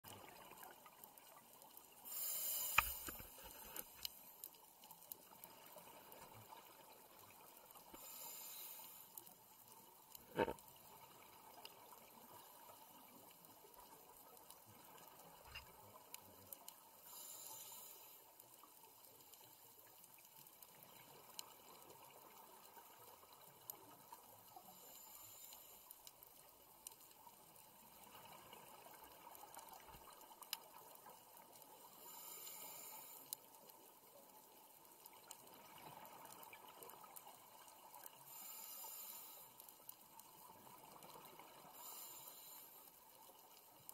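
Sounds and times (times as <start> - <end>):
faint clicks: 0.1 - 43.9.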